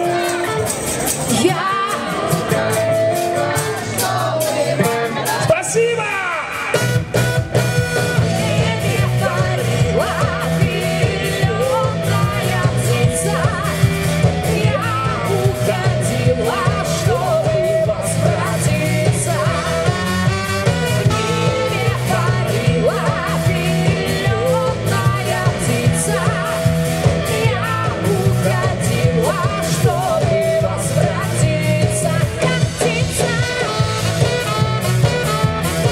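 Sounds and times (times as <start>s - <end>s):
live band playing pop song: 0.0s - 35.9s
steady drum beat: 0.0s - 35.9s.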